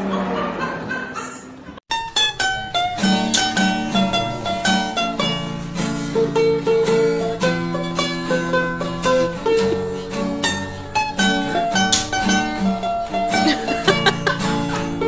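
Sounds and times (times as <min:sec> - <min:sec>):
plucked string music: 0:01.9 - 0:15.0.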